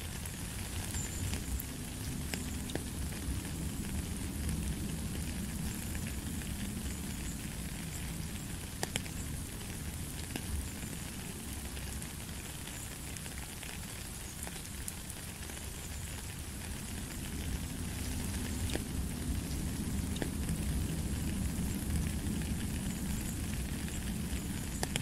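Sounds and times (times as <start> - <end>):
rain on gravel: 0.0 - 25.0.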